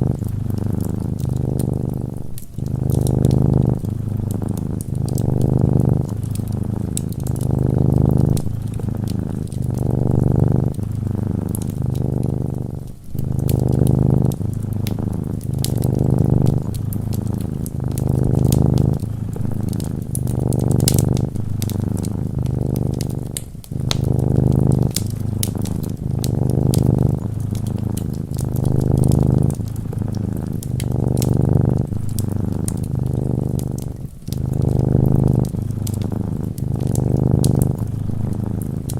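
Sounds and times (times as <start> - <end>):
cat purring: 0.0 - 38.9
wood fire crackling: 0.0 - 38.9.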